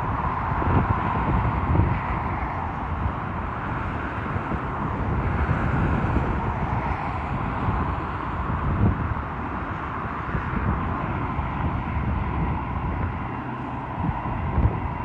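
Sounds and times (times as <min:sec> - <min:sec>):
jet airliner engines rushing: 0:00.0 - 0:15.0.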